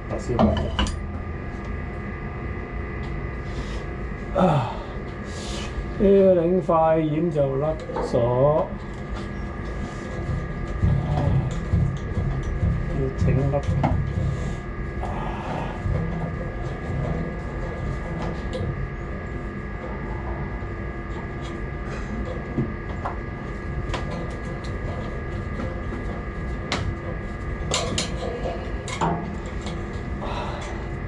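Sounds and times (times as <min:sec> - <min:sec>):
machinery hum with whining: 0:00.0 - 0:31.0.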